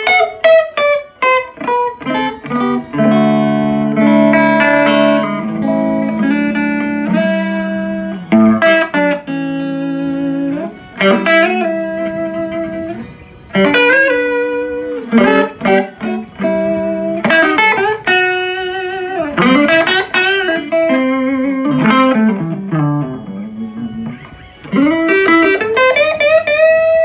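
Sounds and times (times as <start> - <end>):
electric guitar lead line: 0.0 - 27.0.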